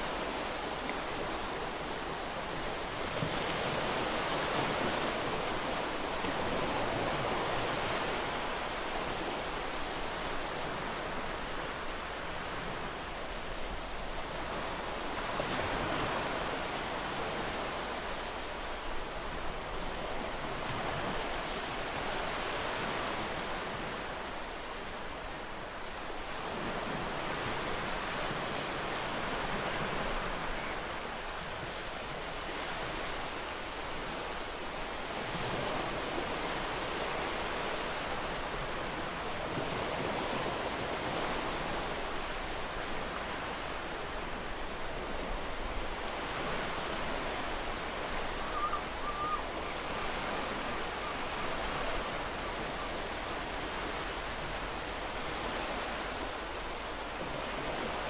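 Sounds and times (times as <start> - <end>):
choppy waves lapping: 0.0 - 58.0
wind over sea: 0.0 - 58.0.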